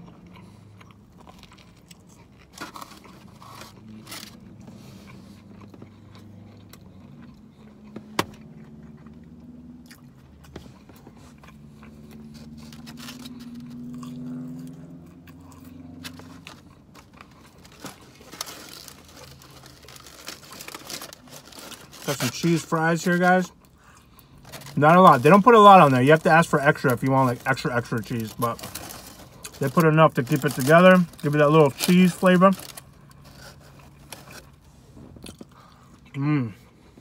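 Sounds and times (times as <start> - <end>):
chewing crunchy bread: 0.0 - 37.0.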